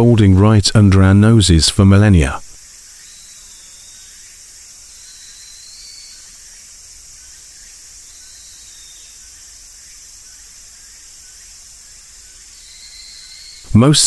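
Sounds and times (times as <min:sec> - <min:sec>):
cicadas buzzing: 0:02.5 - 0:14.0.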